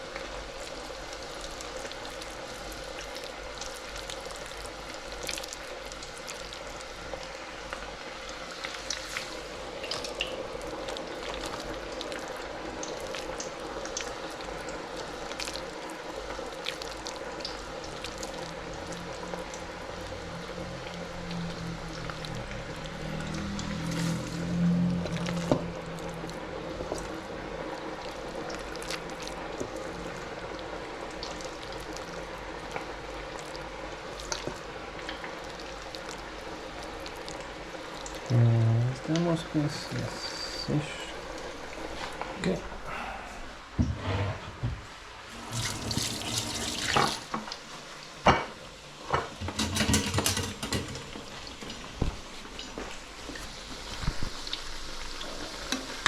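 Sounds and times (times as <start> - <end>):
oil bubbling and crackling: 0.0 - 43.8, 44.8 - 56.0.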